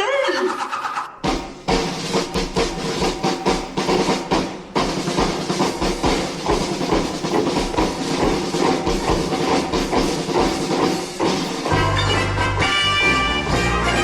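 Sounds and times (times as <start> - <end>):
band music with steady drumbeat: 1.2 - 14.0.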